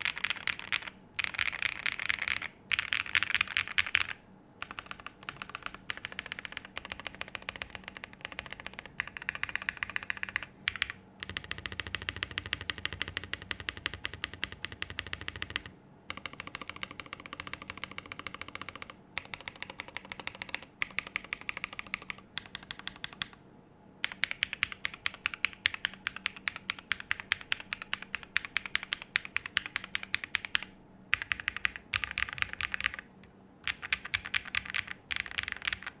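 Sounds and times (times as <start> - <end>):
fast typing on mechanical keyboard: 0.0 - 23.4, 24.0 - 36.0.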